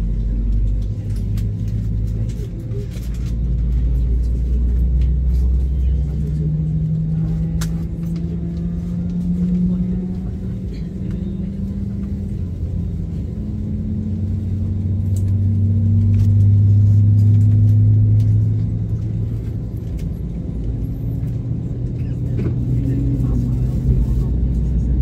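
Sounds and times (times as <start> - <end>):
jet engines humming in cabin: 0.0 - 25.0.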